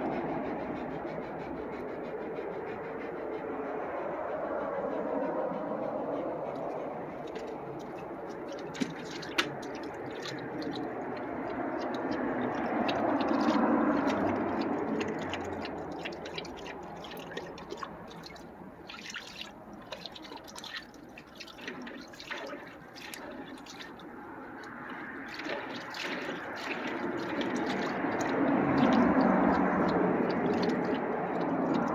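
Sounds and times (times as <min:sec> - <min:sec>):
dog lapping water: 0:00.0 - 0:31.9.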